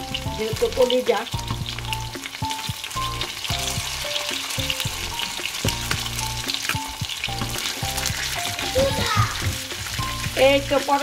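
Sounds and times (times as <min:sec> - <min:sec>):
background music: 0:00.0 - 0:11.0
meat sizzling in oil: 0:00.0 - 0:11.0
oil crackling and popping: 0:00.0 - 0:11.0.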